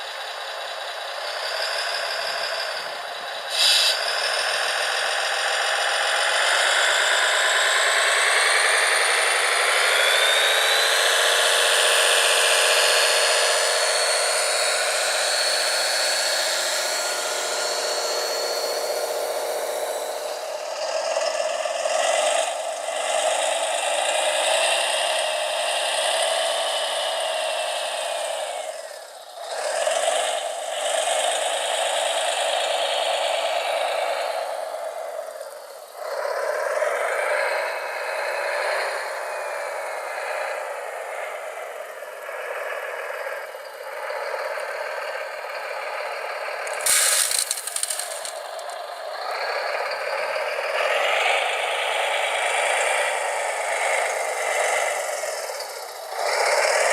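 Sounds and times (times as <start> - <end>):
small electric motors whining: 0.2 - 38.0, 38.7 - 56.9.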